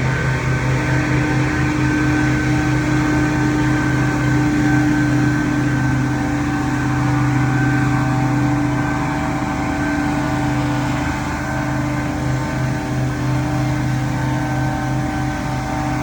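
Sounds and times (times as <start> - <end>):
leaf blower running: 0.0 - 16.0.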